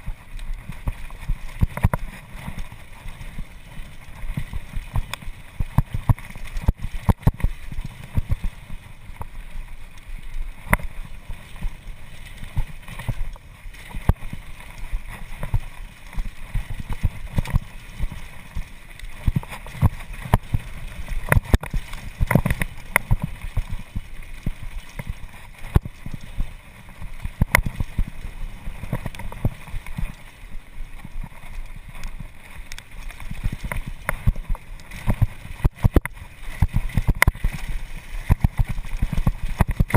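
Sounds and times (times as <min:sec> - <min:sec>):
bike tyres rumbling on dirt: 0:00.0 - 0:39.9.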